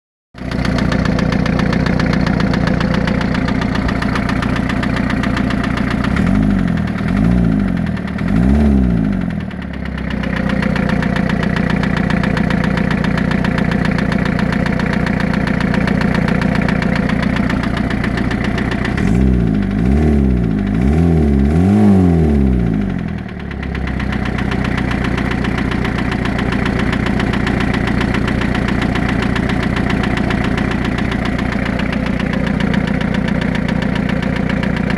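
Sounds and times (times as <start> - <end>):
knocking engine idling and revving: 0.4 - 34.9.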